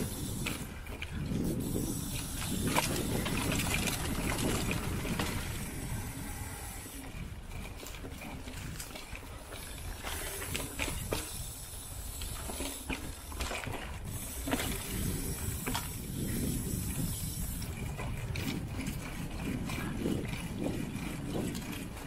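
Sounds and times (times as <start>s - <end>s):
bike knocking and rattling: 0.0s - 22.0s
bike tyres rumbling on dirt: 0.0s - 22.0s.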